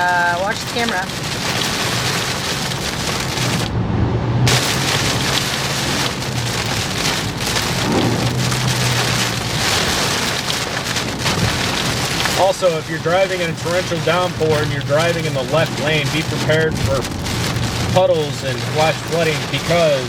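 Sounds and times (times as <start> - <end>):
heavy rain on car roof: 0.0 - 20.0
road and engine hum: 0.0 - 20.0.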